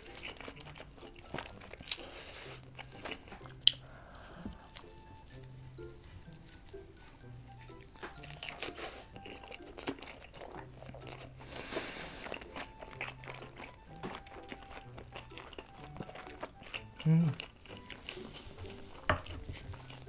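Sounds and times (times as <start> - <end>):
wet chewing of dumpling: 0.0 - 20.0.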